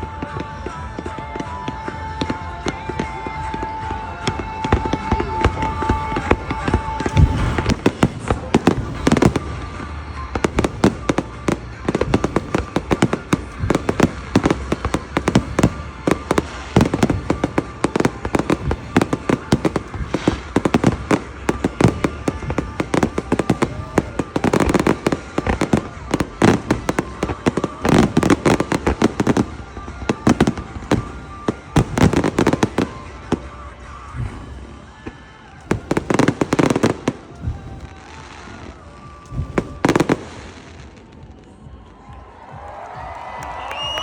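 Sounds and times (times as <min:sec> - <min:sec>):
fireworks booming: 0:00.0 - 0:44.0
fireworks cracking: 0:00.0 - 0:44.0.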